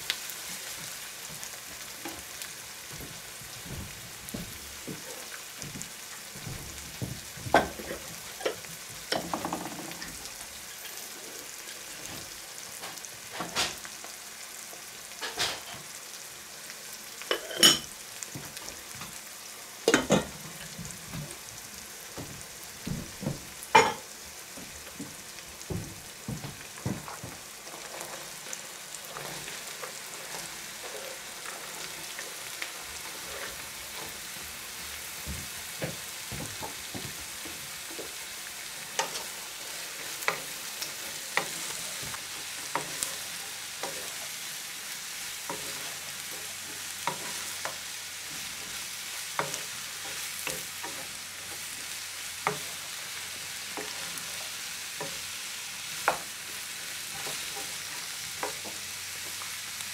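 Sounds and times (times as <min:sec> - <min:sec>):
food sizzling in frying pan: 0:00.0 - 0:59.9.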